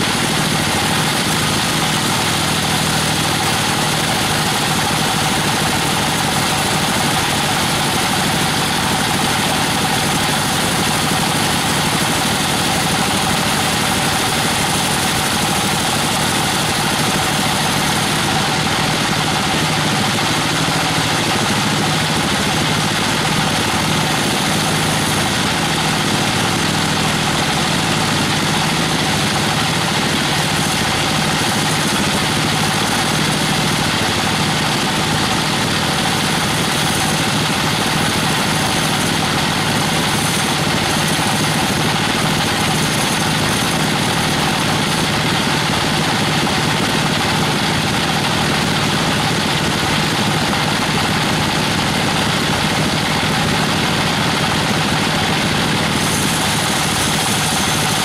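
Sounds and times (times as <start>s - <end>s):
band saw cutting through log: 0.0s - 58.0s.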